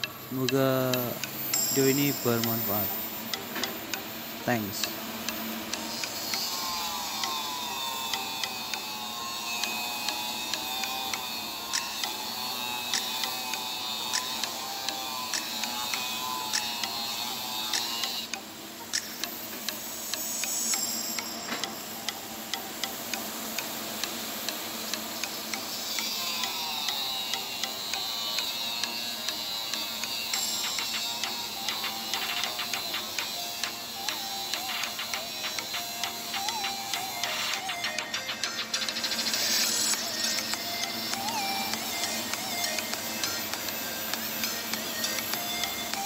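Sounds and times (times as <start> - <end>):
welding arc hissing and ticking: 0.0 - 46.0.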